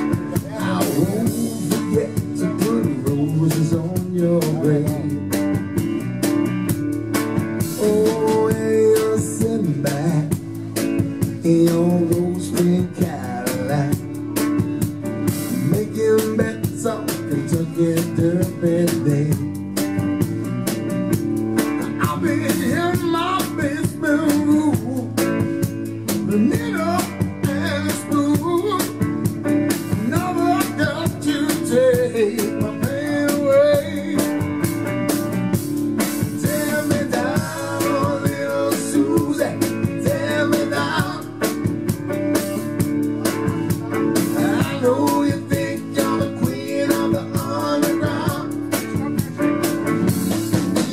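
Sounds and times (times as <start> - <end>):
drums: 0.0 - 50.9
electric bass: 0.0 - 50.9
electric guitar lead: 0.0 - 50.9.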